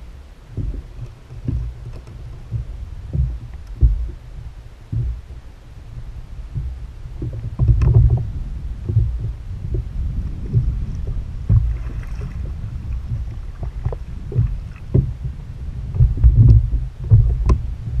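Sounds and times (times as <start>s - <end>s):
low rumble of water and hull: 0.0s - 18.0s
paddle strokes splashing water: 0.5s - 17.5s.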